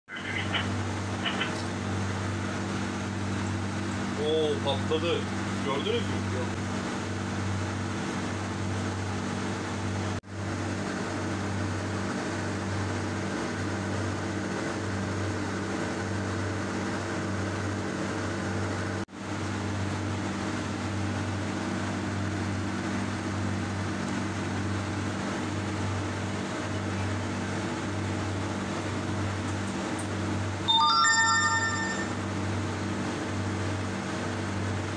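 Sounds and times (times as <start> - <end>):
steady mechanical hum: 0.1 - 34.9.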